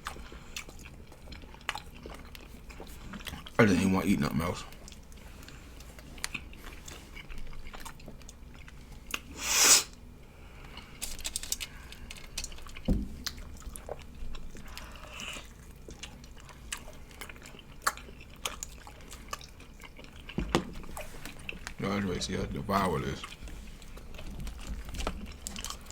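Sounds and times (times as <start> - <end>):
chewing and biting: 0.0 - 3.9, 4.6 - 25.9.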